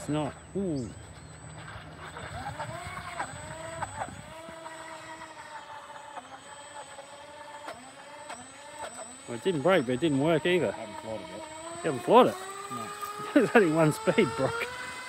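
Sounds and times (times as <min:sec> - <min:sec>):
model boat electric motor whining: 0:00.0 - 0:15.0.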